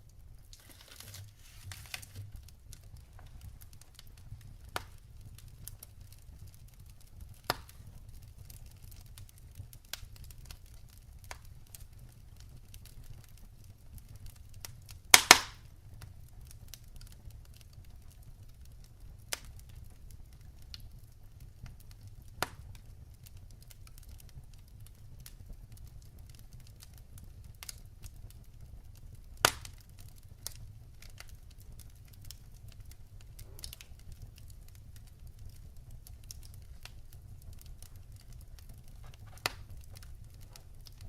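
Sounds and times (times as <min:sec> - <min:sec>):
wood fire crackling in a fireplace: 0:00.0 - 0:41.0.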